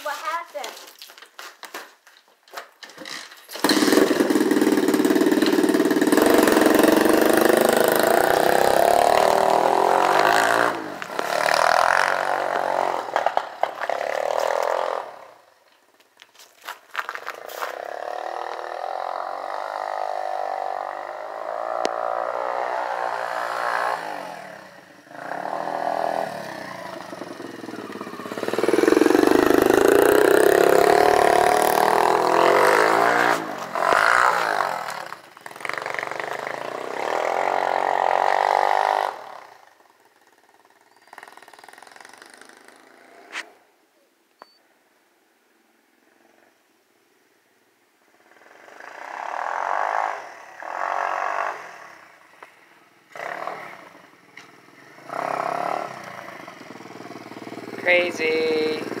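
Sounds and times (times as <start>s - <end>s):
dirt bike engine revving: 3.0s - 15.5s, 17.1s - 43.6s, 48.2s - 59.0s.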